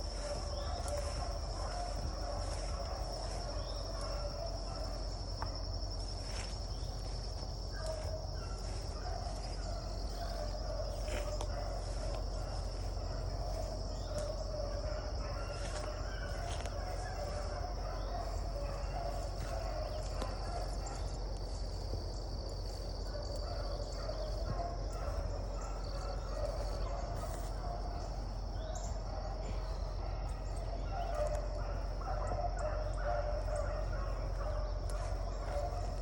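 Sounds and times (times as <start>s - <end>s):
dogs baying in the distance: 0.0s - 36.0s.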